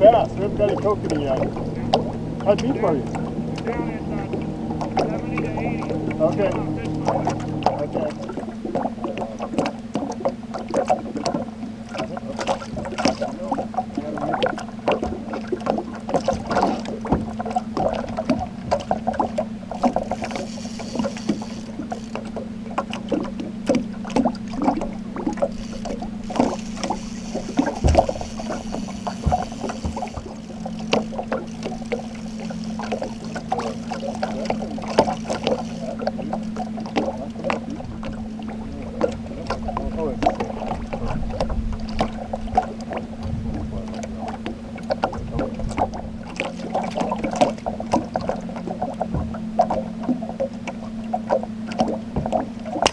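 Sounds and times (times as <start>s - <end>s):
boat motor humming: 0.0s - 52.9s
water slapping metal hull: 0.0s - 52.9s.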